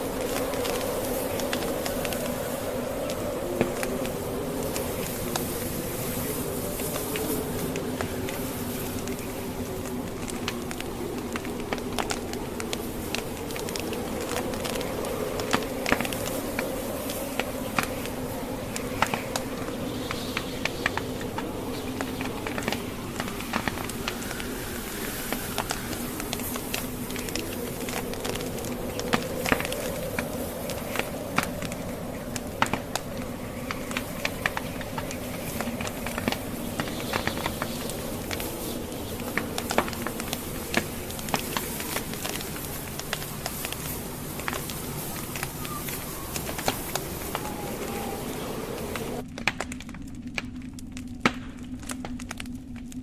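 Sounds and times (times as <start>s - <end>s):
howling blizzard wind: 0.0s - 53.0s
wood fire crackling: 0.0s - 53.0s.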